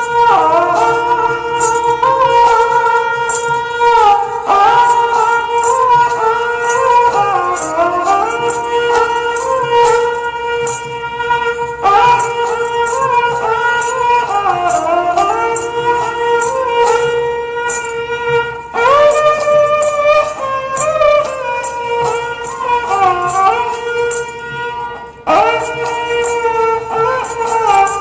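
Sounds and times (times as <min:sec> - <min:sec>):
light percussion strikes: 0:00.0 - 0:28.0
reedy wind instrument melody: 0:00.0 - 0:28.0.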